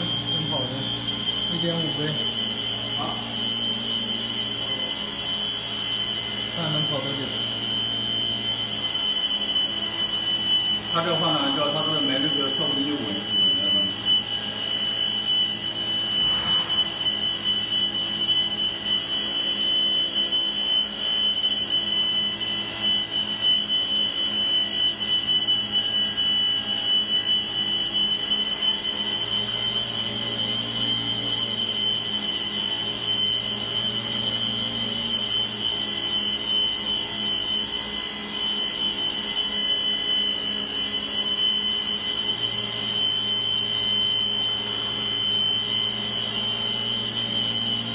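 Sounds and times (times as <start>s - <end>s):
circular saw motor whine: 0.0s - 47.9s.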